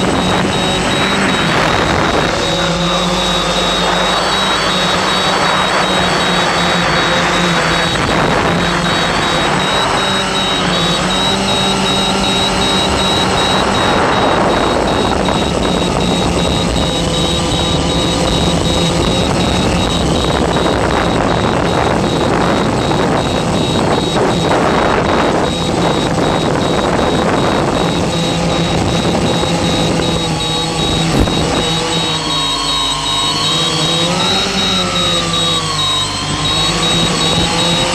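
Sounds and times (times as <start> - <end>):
drone motors whining: 0.0 - 37.9.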